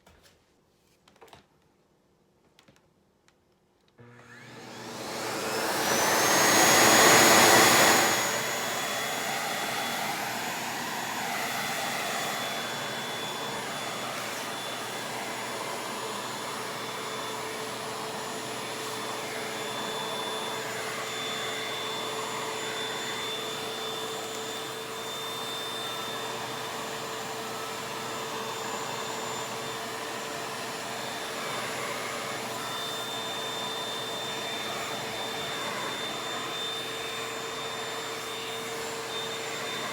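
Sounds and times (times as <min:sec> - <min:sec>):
vacuum cleaner running: 0:04.0 - 0:39.9.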